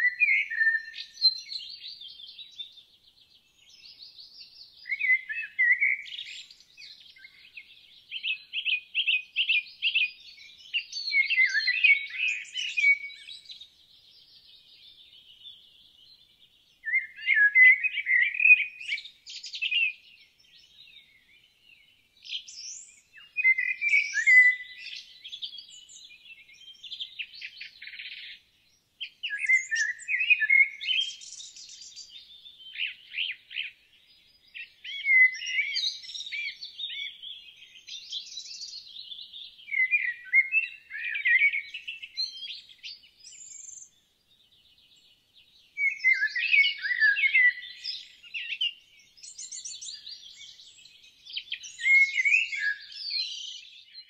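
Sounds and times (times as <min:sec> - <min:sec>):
songbird warbling and trilling: 0:03.6 - 0:15.6, 0:16.8 - 0:21.5, 0:22.2 - 0:28.4, 0:29.0 - 0:44.0, 0:45.8 - 0:54.0.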